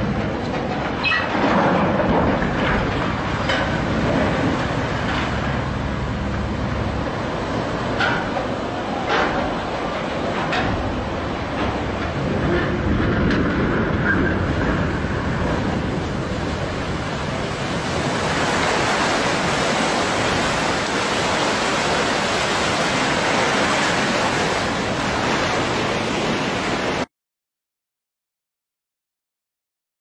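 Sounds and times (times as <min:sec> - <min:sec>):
water surging over bank: 0:00.0 - 0:27.1.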